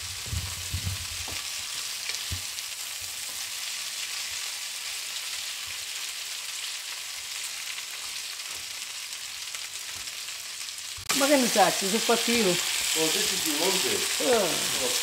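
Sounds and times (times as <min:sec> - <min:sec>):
peppers sizzling in oil: 0:00.0 - 0:15.0.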